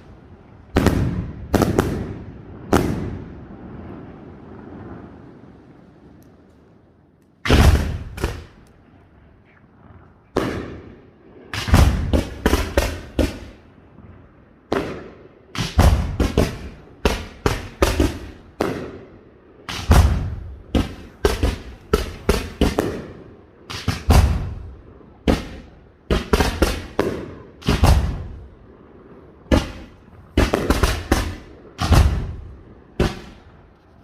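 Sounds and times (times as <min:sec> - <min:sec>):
fireworks bangs: 0:00.0 - 0:06.2, 0:07.4 - 0:34.0.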